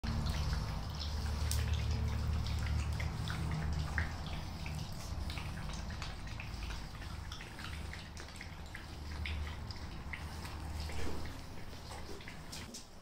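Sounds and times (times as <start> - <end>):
low steady hum: 0.0 - 13.0
puppies lapping and chewing: 0.0 - 13.0.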